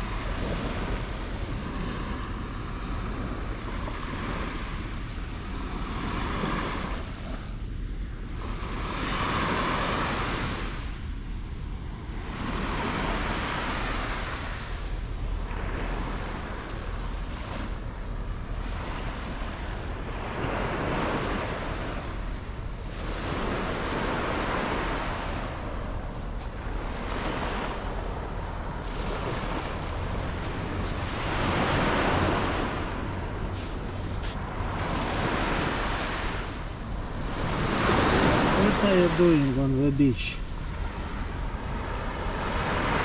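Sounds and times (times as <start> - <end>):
sea waves breaking on shore: 0.0 - 43.0
wind rumble on microphone: 0.0 - 43.0.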